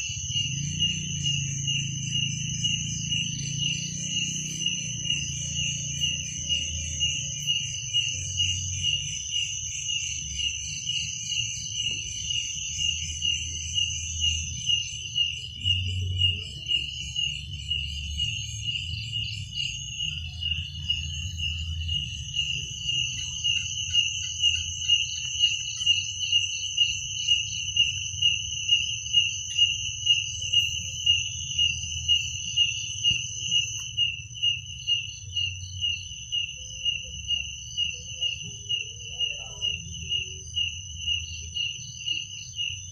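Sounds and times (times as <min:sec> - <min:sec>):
cricket chirping: 0:00.0 - 0:42.9
insects trilling: 0:00.0 - 0:42.9.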